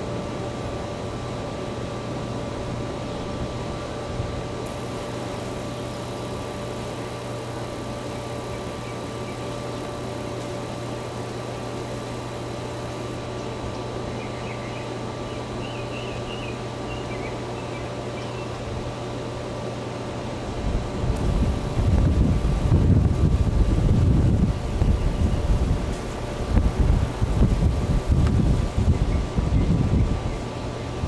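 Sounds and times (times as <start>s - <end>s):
machine hum and hiss: 0.0s - 31.0s.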